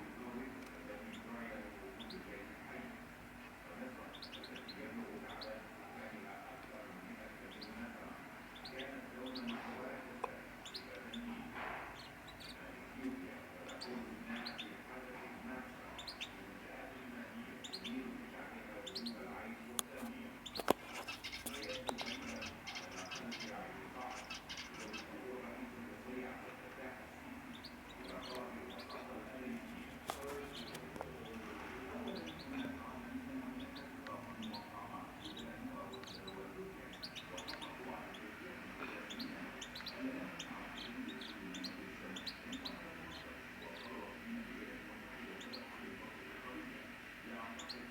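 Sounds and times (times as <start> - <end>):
canaries chirping: 0.0 - 47.9.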